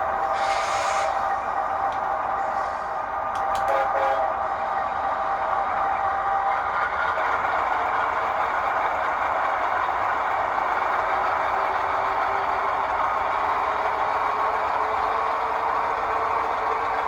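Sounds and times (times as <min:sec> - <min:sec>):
locomotive engine running: 0:00.0 - 0:17.0.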